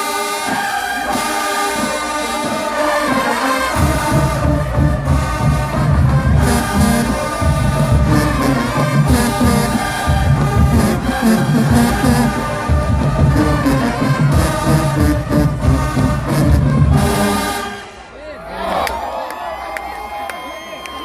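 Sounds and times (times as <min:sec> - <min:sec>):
brass section playing chords: 0:00.0 - 0:18.2.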